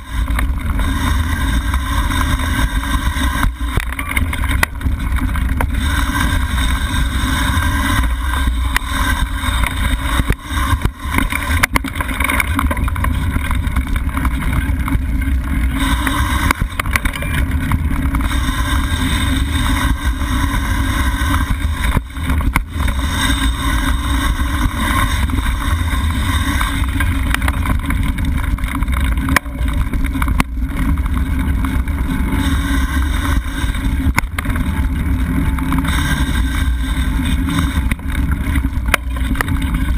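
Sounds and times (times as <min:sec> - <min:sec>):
bike rattling over bumps: 0:00.0 - 0:39.9
tyres rumbling on dirt: 0:00.0 - 0:39.9.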